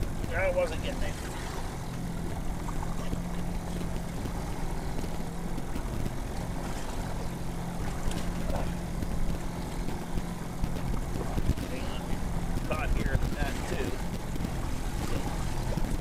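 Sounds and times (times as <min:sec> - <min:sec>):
boat motor humming: 0:00.0 - 0:16.0
water noise: 0:00.0 - 0:16.0
wind: 0:00.0 - 0:16.0.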